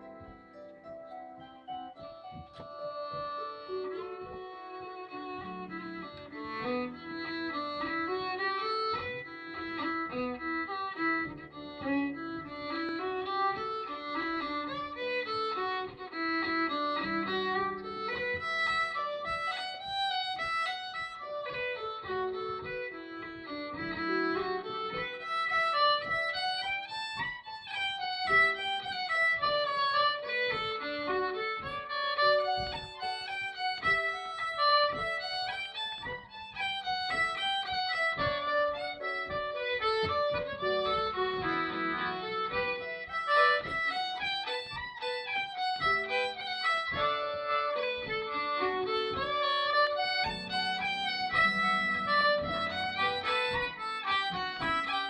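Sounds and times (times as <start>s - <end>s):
fiddles playing quick melody: 0.0s - 55.0s
harp accompaniment: 0.0s - 55.0s.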